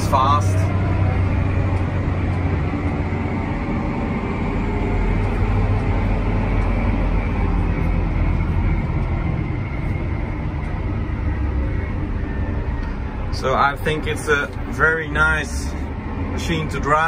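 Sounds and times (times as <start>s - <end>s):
diesel tractor engine running: 0.0s - 17.0s
driving noise: 0.0s - 17.0s.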